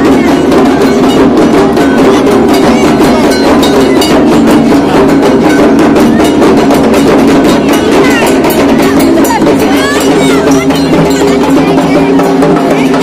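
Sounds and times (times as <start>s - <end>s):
drums beaten with sticks: 0.0s - 13.0s.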